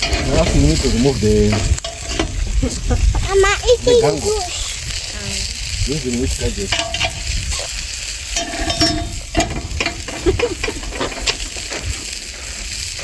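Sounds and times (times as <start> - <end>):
fire crackling: 0.0 - 13.0
meat sizzling on a grill: 0.0 - 13.0.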